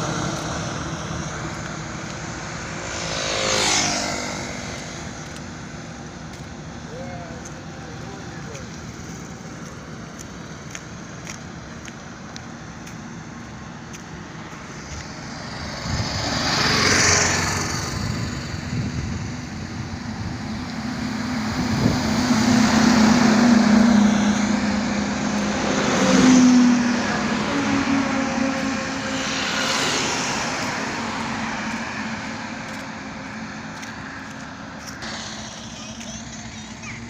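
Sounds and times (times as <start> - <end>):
heavy vehicle engine drone: 0.0 - 37.0
highway traffic passing: 0.0 - 37.0.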